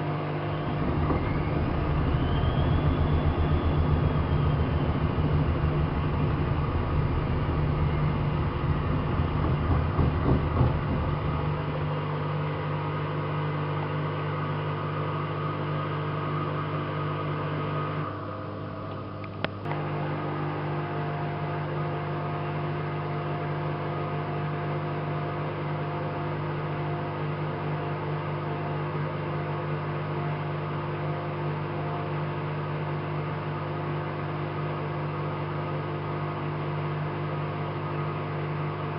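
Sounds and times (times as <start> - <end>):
washing machine motor humming: 0.0 - 38.9.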